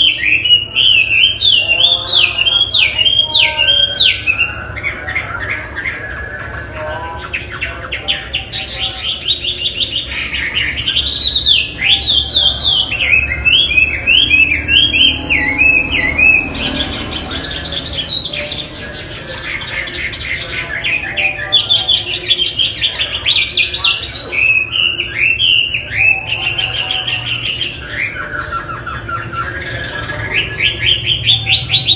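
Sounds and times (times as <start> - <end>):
bird singing varied song: 0.0 - 31.9.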